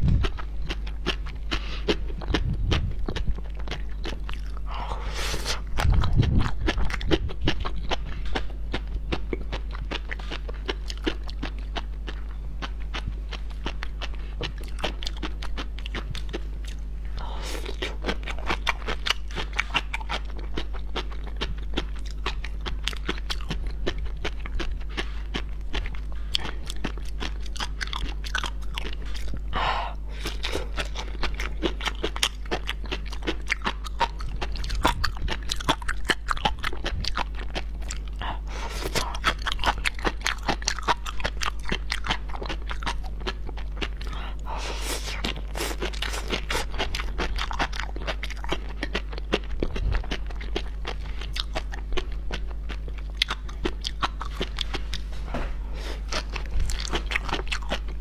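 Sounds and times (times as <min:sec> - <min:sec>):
low steady hum: 0:00.0 - 0:58.0
seaweed crunching while chewed: 0:00.0 - 0:58.0.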